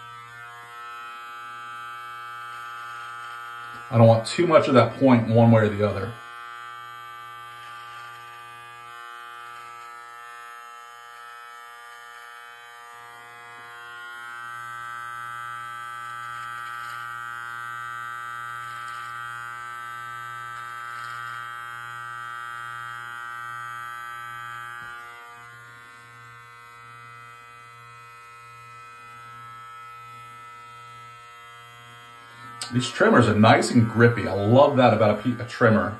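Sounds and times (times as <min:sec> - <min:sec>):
beard trimmer buzzing: 0:00.0 - 0:35.9.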